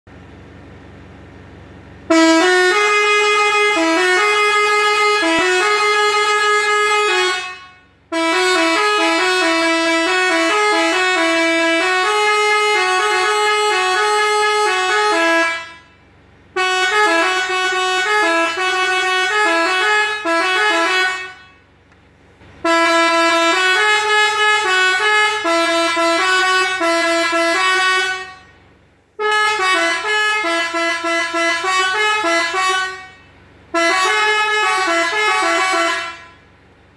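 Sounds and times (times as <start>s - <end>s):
air horns tooting melodies: 1.9s - 21.8s, 22.4s - 36.6s.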